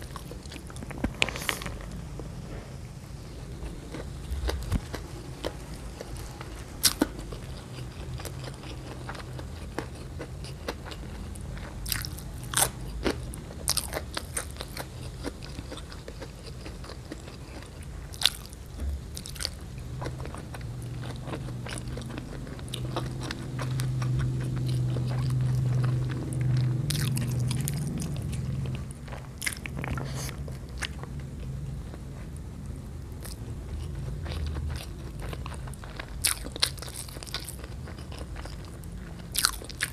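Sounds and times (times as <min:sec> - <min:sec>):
low steady hum: 0:00.0 - 0:39.9
wet chewing with crunchy clicks: 0:03.5 - 0:39.9.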